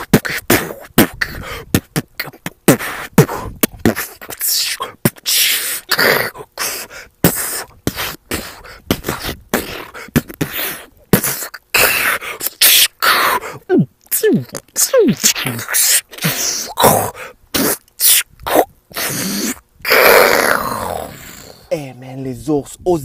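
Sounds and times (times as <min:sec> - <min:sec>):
man beatboxing: 0:00.0 - 0:21.9.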